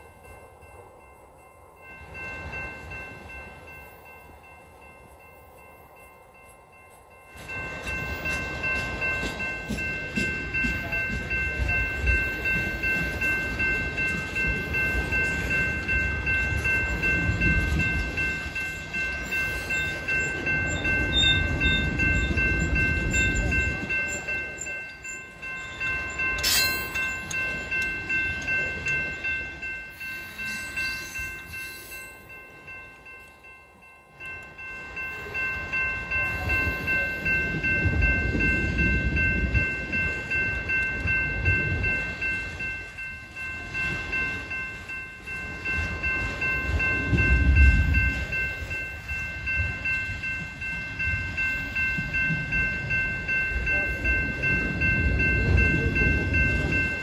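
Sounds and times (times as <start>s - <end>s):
train cars rumbling past: 0.0s - 57.0s
train wheels clacking: 1.8s - 57.0s.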